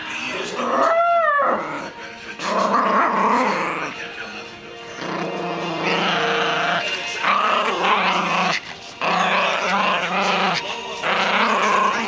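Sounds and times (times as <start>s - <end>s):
puppy growling: 0.0s - 4.1s, 4.9s - 12.0s.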